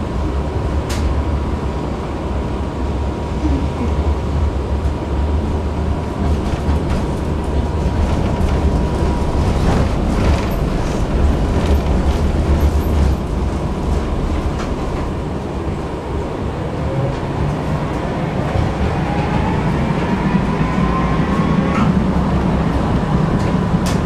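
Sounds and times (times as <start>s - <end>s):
tram low rumble: 0.0s - 24.0s.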